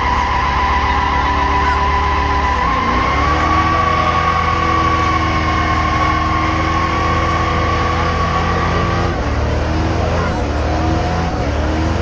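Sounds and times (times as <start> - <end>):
car engine at high revs: 0.0 - 12.0
tires squealing: 0.0 - 12.0.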